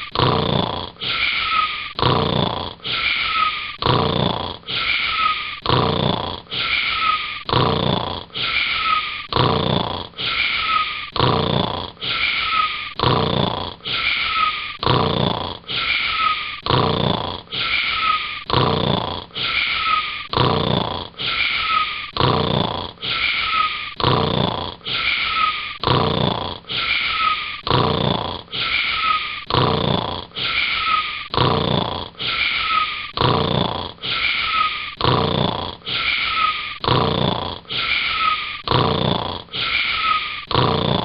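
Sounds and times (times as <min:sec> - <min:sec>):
cartoon snoring: 0:00.0 - 0:41.0.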